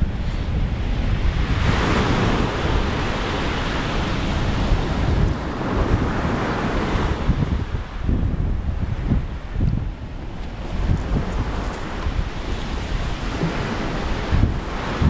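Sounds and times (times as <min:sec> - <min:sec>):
surf washing up pebble beach: 0:00.0 - 0:15.0
wind buffeting microphone: 0:00.0 - 0:15.0.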